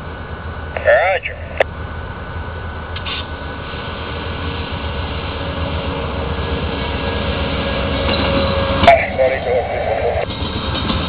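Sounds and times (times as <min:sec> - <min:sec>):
diesel locomotive passing: 0:00.0 - 0:11.0.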